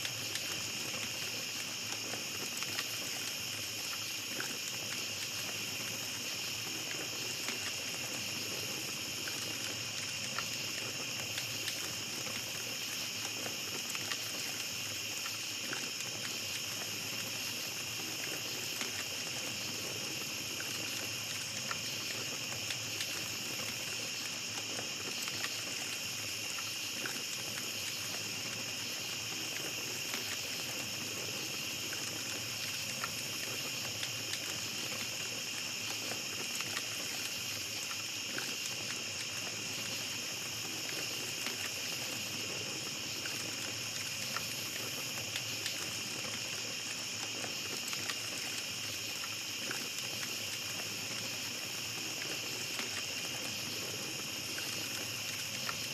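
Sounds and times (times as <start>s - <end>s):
campfire crackling softly: 0.0s - 55.9s
crickets trilling: 0.0s - 55.9s.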